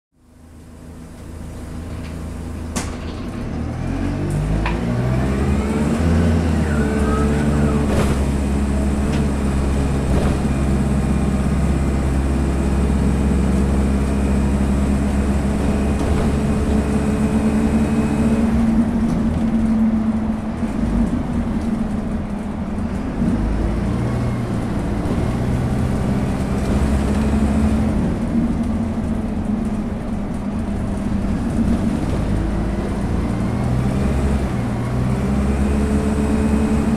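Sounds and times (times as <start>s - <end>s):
bus diesel engine: 0.1s - 36.9s.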